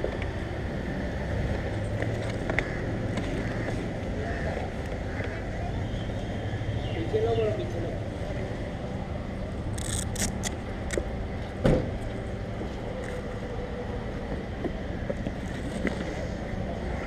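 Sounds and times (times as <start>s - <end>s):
background traffic rumble: 0.0s - 17.0s.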